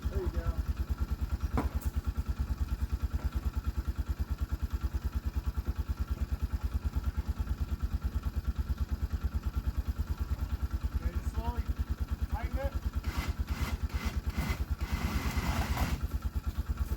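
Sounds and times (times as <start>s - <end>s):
vehicle engine idling: 0.0s - 16.9s.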